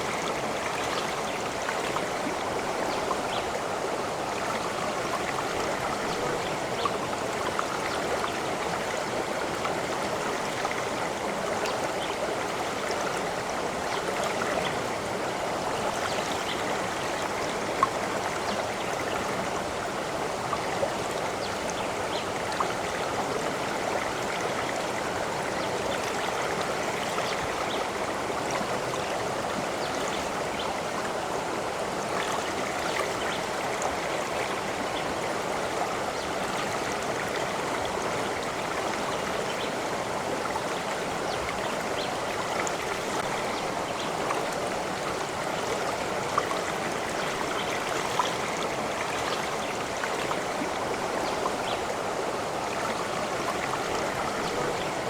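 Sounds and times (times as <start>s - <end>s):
water babbling: 0.0s - 55.0s.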